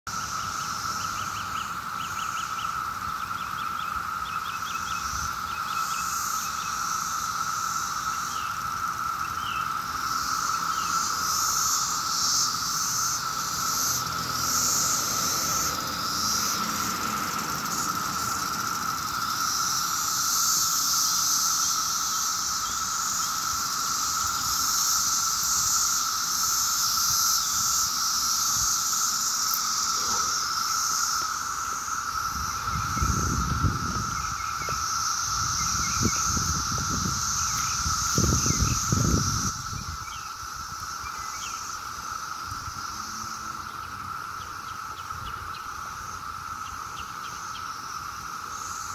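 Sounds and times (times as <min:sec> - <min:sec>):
cicadas droning: 0:00.0 - 0:48.9.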